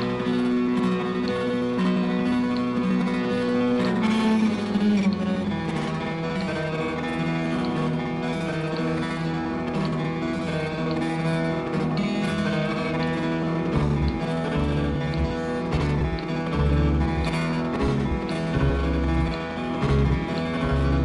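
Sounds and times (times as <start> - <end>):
plucked and strummed guitar: 0.0 - 21.0.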